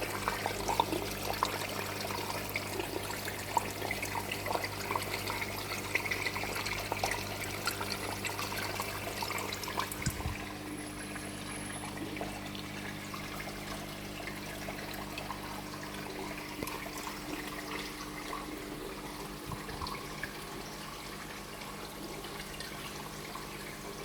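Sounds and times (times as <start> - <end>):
aquarium water bubbling: 0.0 - 24.0
low pump hum: 0.0 - 24.0.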